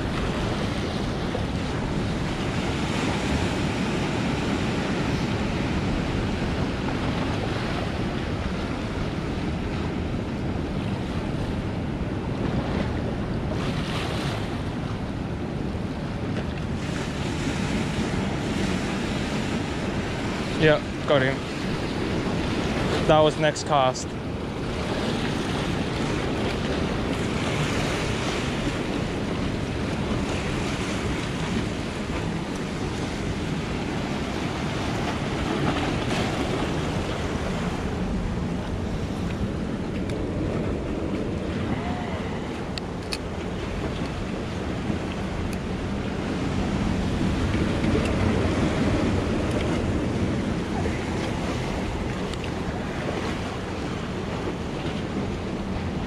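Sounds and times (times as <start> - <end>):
waves washing against boulders: 0.0 - 56.0
wind buffeting microphone: 0.0 - 56.0.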